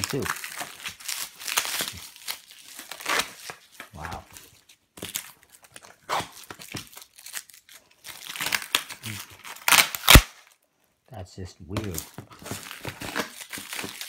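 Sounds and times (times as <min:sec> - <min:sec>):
packing tape tearing: 0:00.0 - 0:10.6, 0:11.8 - 0:14.0.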